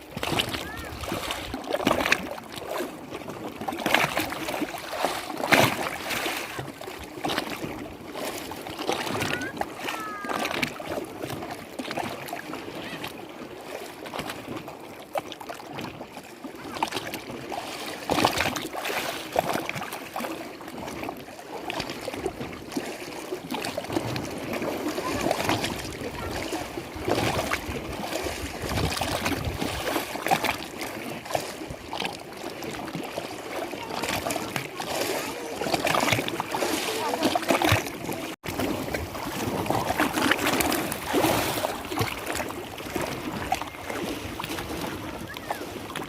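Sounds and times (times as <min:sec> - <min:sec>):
lake water lapping: 0:00.0 - 0:46.0
water splash: 0:00.0 - 0:46.0.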